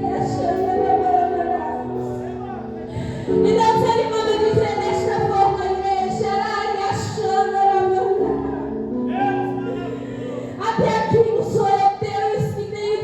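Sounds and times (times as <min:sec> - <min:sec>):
woman singing worship song: 0:00.0 - 0:09.0, 0:09.9 - 0:13.0.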